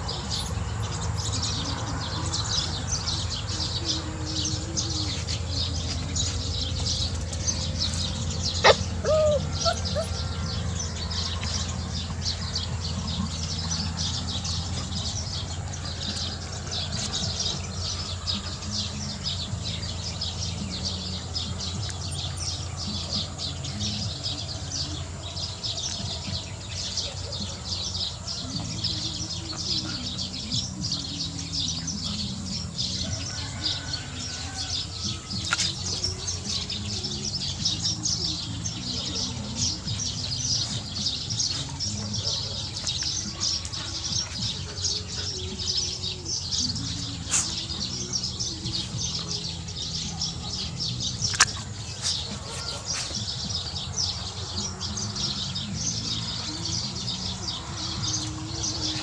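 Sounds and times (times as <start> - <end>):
birds and insects chirping: 0.0 - 59.0.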